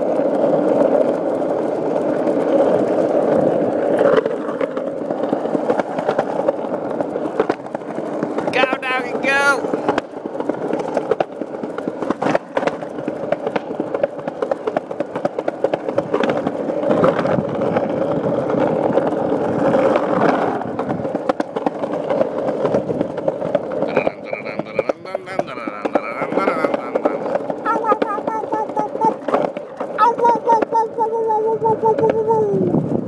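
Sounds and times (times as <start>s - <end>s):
skateboard clicks and knocks: 0.0s - 33.0s
skateboard wheels rolling on concrete: 0.0s - 33.0s.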